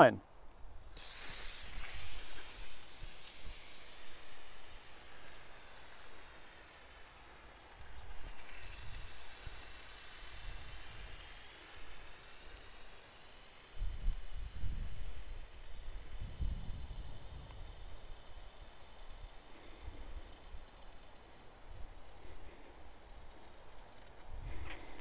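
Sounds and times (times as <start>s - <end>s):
soda hissing spray from bottle: 0.6s - 25.0s.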